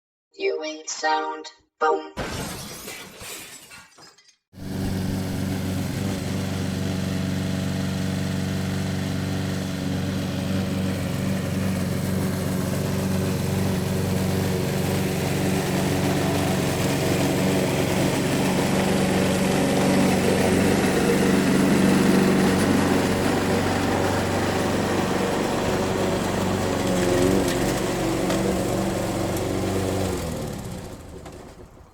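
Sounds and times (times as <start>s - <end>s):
lawnmower engine running: 4.6s - 31.9s.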